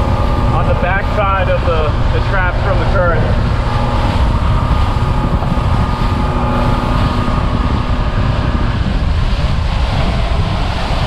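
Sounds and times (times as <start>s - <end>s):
boat engine running: 0.0s - 11.0s
spray rushing off hull: 0.0s - 11.0s
wind buffeting microphone: 0.0s - 11.0s.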